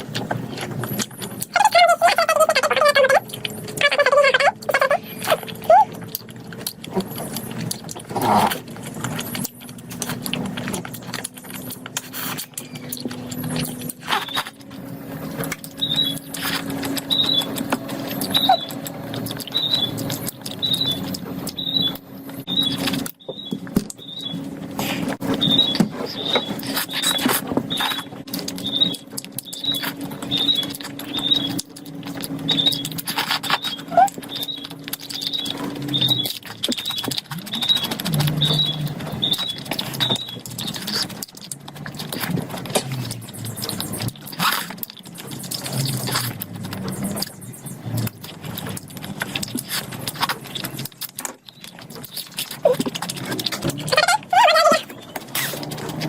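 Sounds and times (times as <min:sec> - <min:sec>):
wet chewing and lip-smacking: 0:00.0 - 0:56.0.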